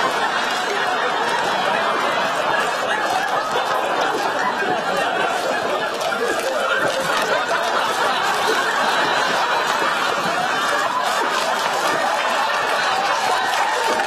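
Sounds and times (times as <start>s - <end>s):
studio audience laughing: 0.0s - 14.0s.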